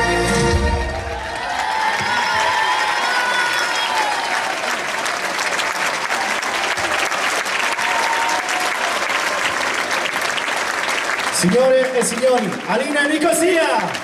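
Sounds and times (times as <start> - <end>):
crowd clapping: 0.8 - 14.0.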